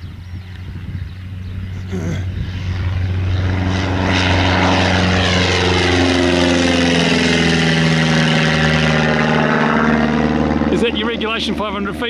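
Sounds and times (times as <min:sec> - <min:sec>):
light aircraft engine passing overhead: 0:00.0 - 0:12.0.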